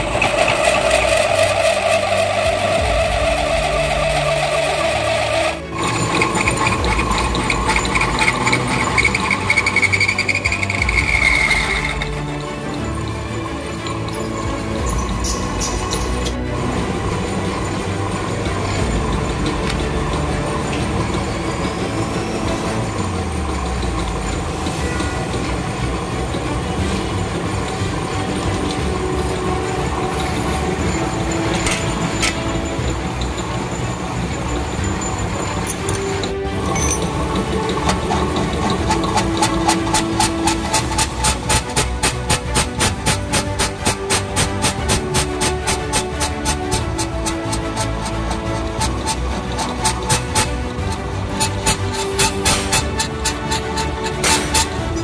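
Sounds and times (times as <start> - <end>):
metal lathe whine: 0.0 - 55.0
pulsing mechanical rattle: 0.0 - 55.0.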